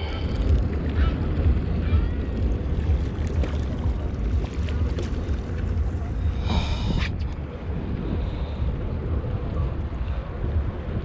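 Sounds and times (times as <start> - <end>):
water moving around boat: 0.0 - 11.0
wind buffeting microphone: 0.0 - 11.0.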